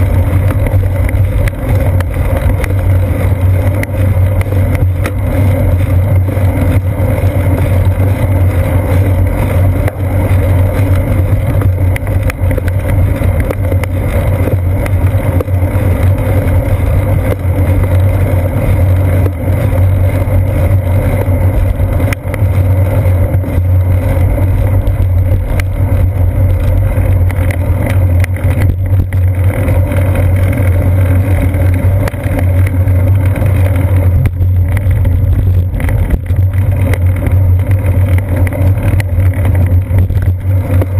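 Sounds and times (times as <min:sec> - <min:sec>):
bicycle rolling on pavement: 0:00.0 - 0:40.9.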